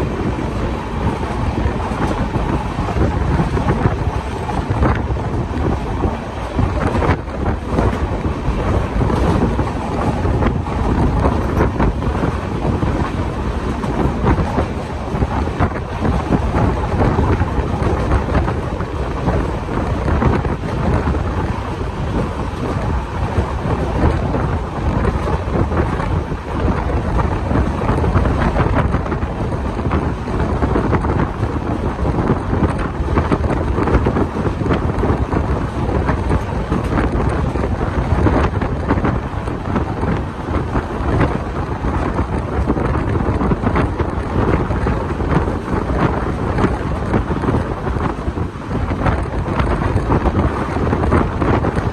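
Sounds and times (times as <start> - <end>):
train wheels rumbling on rails: 0.0 - 51.9
wind buffeting microphone: 0.0 - 51.9.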